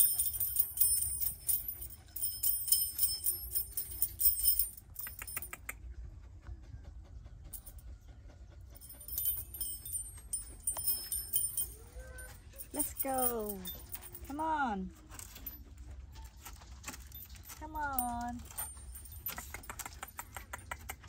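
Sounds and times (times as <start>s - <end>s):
metal chain leash jangling: 0.0s - 5.6s, 7.6s - 7.8s, 8.7s - 21.0s.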